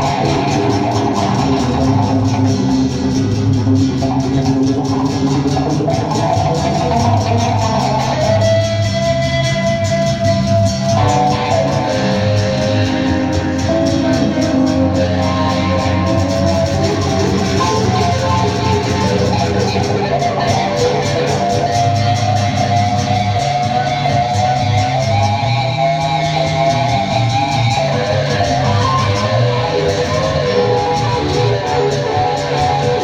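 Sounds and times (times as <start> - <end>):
plucked acoustic guitar: 0.0 - 33.0
steady bass line: 0.0 - 33.0.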